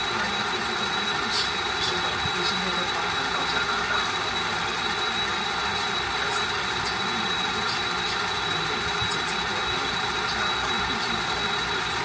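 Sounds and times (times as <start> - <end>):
model truck mechanical hum: 0.0 - 12.0
thin high whine: 0.0 - 12.0.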